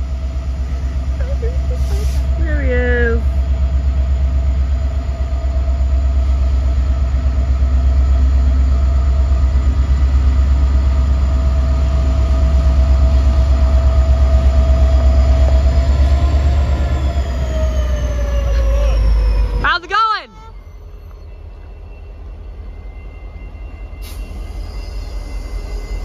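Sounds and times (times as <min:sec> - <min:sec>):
diesel locomotive engine throbbing: 0:00.0 - 0:26.0.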